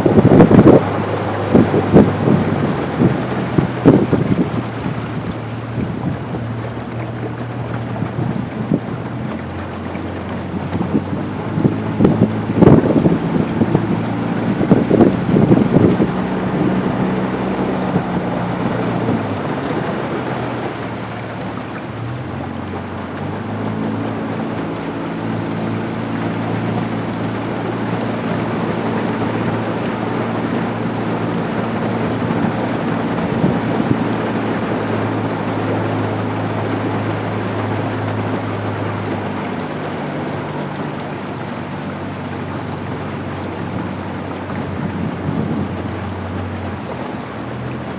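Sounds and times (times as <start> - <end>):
boat motor running: 0.0 - 47.9
rushing water: 0.0 - 47.9
wind: 0.0 - 47.9.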